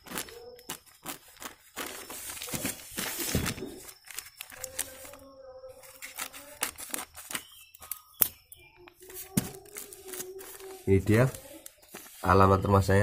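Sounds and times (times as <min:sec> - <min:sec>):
scissors cutting plastic: 0:00.0 - 0:12.1
plastic bag crinkling: 0:00.0 - 0:12.4.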